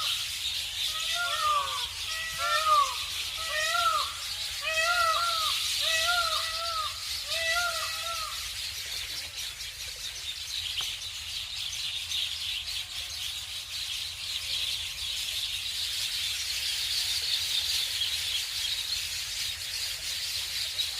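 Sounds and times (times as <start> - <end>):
small birds chirping chorus: 0.0 - 20.9.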